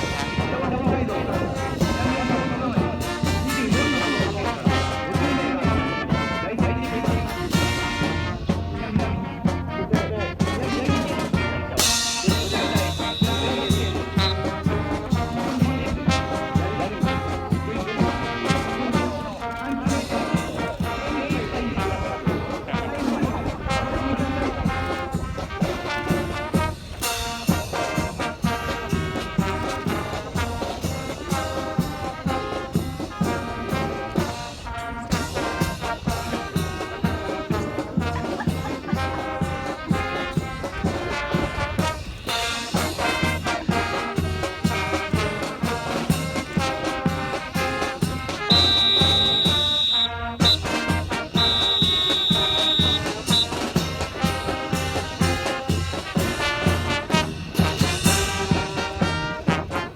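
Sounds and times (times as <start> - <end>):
brass band march: 0.0 - 59.9.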